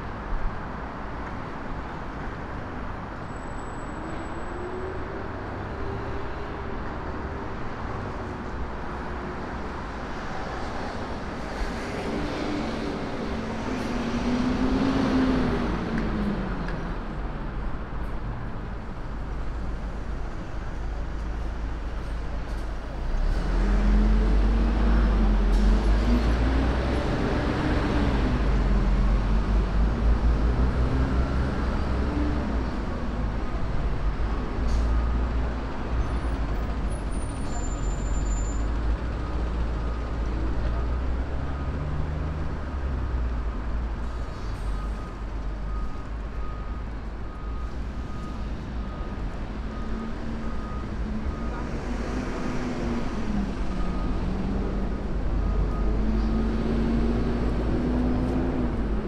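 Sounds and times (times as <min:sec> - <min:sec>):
bus engine: 0:00.0 - 0:59.0
city traffic rumble: 0:00.0 - 0:59.0.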